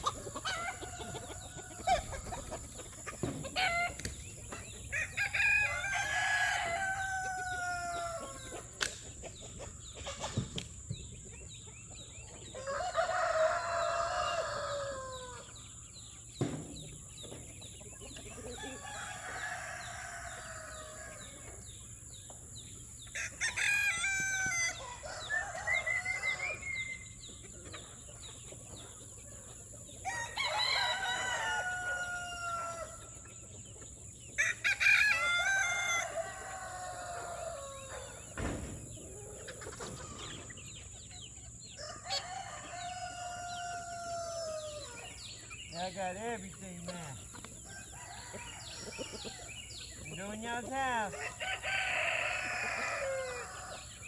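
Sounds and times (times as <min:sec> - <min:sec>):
chickens clucking: 0:00.0 - 0:54.0
roosters crowing: 0:00.0 - 0:54.0.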